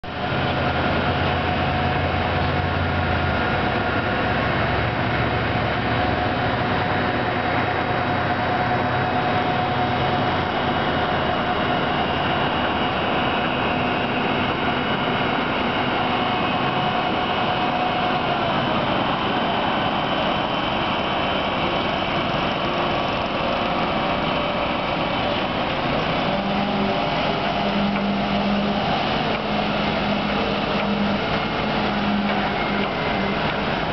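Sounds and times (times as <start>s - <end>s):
construction machinery engines droning: 0.0s - 33.9s
steady whine: 0.0s - 33.9s.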